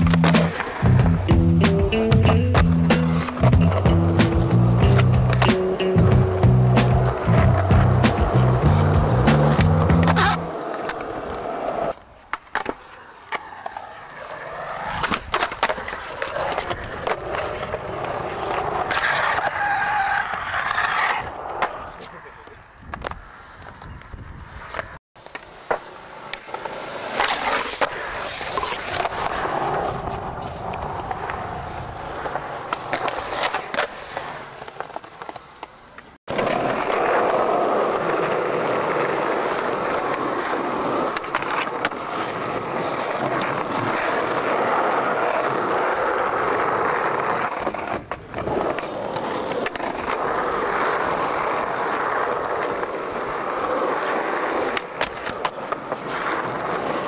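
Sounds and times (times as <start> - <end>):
skateboard clacks: 0.0 - 57.0
skateboard wheels rolling on concrete: 0.0 - 57.0.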